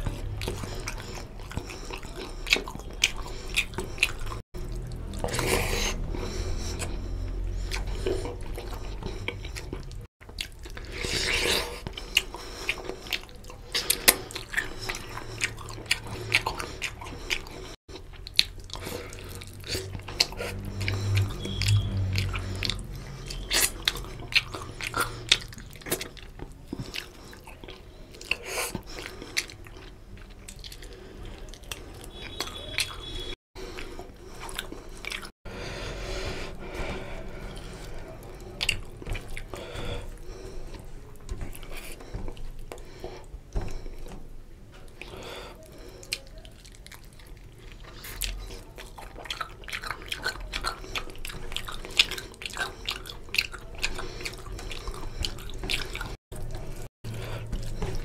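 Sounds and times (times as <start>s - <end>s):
chewing and wet smacking: 0.0s - 35.4s, 36.2s - 58.0s.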